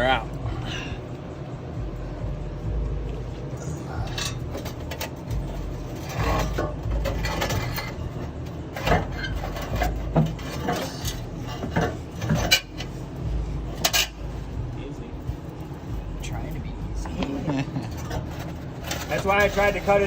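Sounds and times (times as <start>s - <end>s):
exhaust pipe scraping and clanking: 0.0s - 20.0s.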